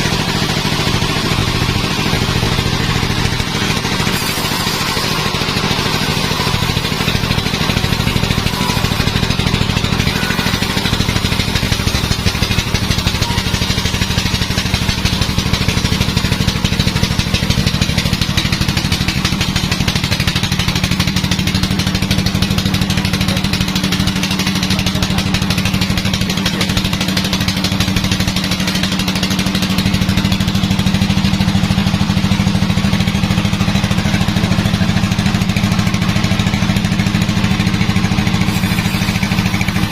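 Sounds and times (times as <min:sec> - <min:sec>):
sawmill machinery engine drone: 0:00.0 - 0:39.9.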